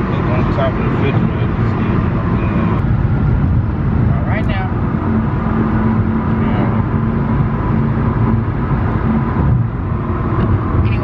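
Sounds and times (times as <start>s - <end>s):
car road and engine rumble: 0.0s - 11.0s
constant hum: 0.0s - 11.0s.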